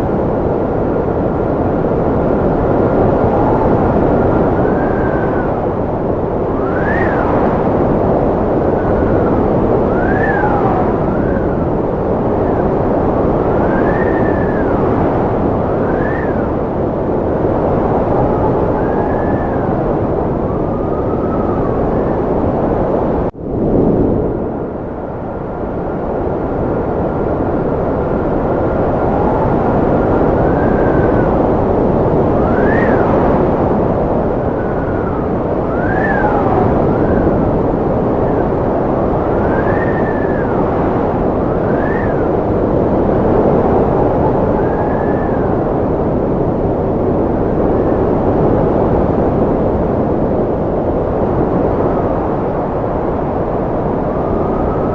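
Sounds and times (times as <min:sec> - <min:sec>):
strong wind whistling: 0:00.0 - 0:54.9.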